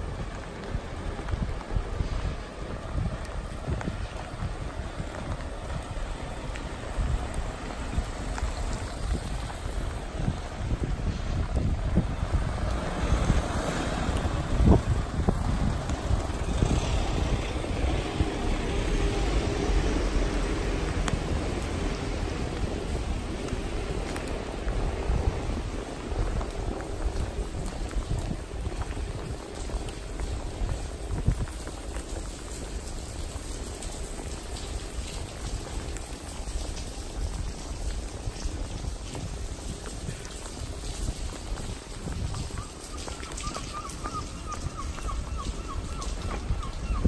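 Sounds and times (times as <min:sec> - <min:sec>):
hiss from wet street: 0:00.0 - 0:47.0
low city rumble: 0:00.0 - 0:47.0.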